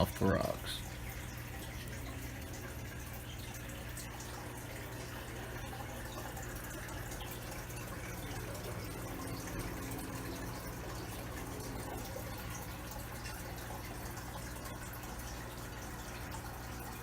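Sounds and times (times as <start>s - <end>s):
water splashing into aquarium: 0.0s - 17.0s.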